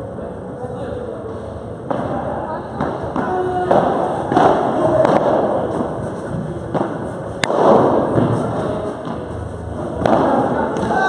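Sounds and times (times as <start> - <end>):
rackets hitting ball: 1.8 - 11.0.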